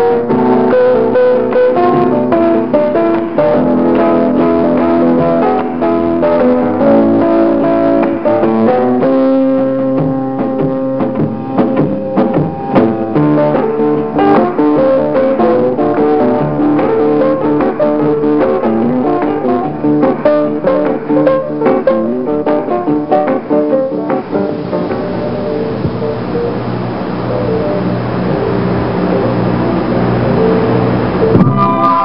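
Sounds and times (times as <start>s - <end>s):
piano: 0.0s - 32.0s
plucked guitar melody: 0.0s - 32.0s.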